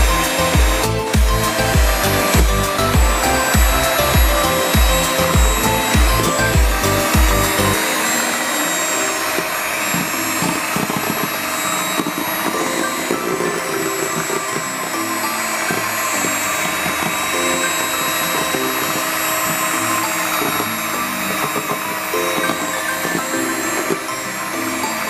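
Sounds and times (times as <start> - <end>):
electric hand mixer running: 0.0 - 25.0.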